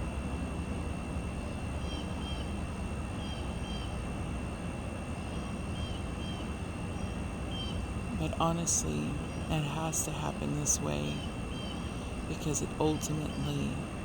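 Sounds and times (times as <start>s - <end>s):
faint high whine: 0.0s - 14.0s
low background rumble: 0.0s - 14.0s.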